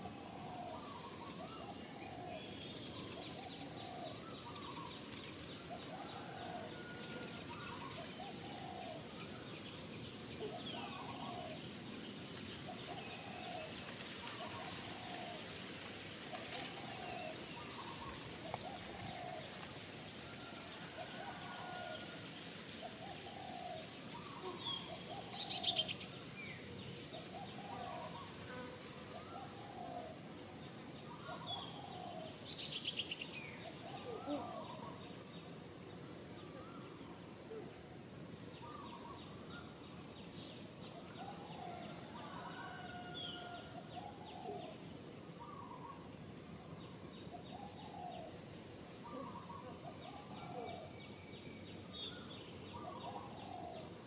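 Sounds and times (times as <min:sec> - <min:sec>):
faint bird chirping: 0:00.0 - 0:54.0.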